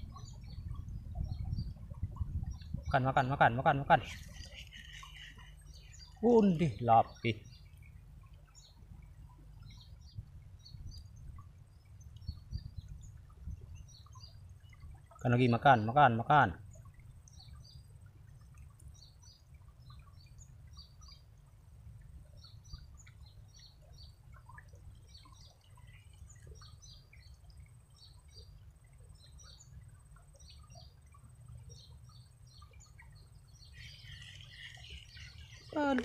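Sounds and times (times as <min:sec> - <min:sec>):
small birds chirping: 0:00.0 - 0:21.3, 0:22.2 - 0:36.0.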